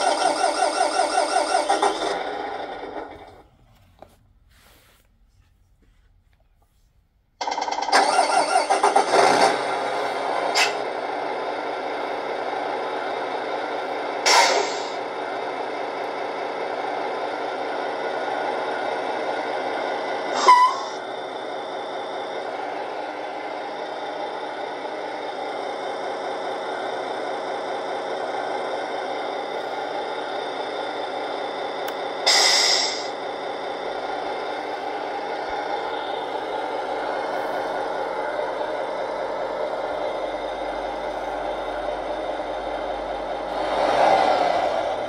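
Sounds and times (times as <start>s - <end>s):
simulated diesel engine idle: 0.0s - 3.6s, 7.4s - 45.0s.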